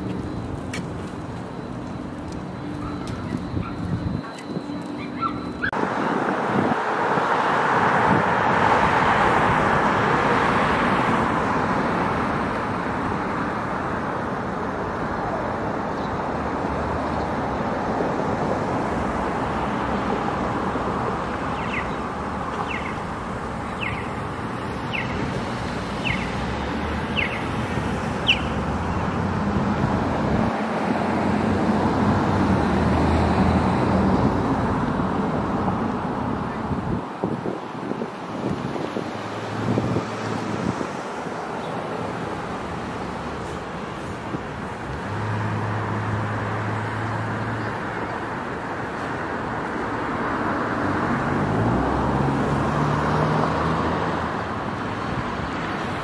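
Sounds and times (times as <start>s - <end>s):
cars passing on road: 0.0s - 56.0s.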